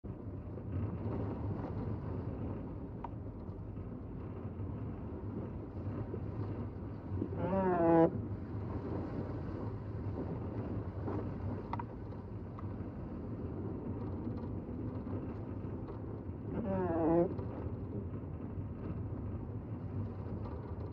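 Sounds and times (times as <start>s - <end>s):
vehicle driving on snow: 0.1s - 20.9s.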